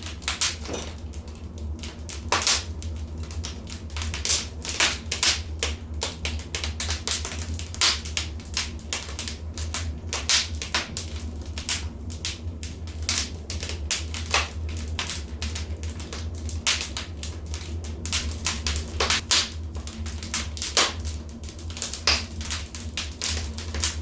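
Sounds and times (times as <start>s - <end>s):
low steady rumble: 0.0s - 24.0s
wood fire crackling: 0.0s - 24.0s.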